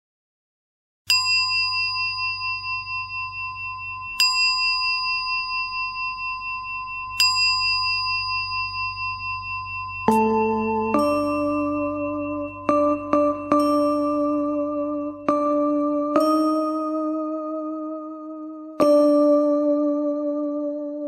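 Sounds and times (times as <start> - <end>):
bell ringing with high tone: 1.1 - 21.0
lower-pitched melodic chime: 1.1 - 21.0.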